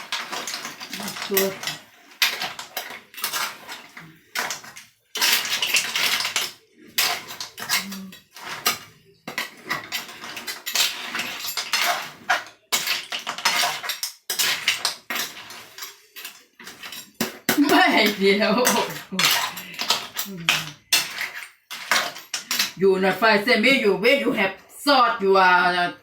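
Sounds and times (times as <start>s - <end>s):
kitchen utensils clattering on cookware: 0.0s - 25.9s.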